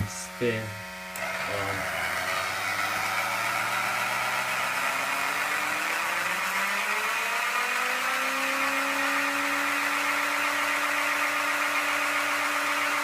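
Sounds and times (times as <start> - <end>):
motor buzzing whine rising in pitch: 0.0 - 13.0.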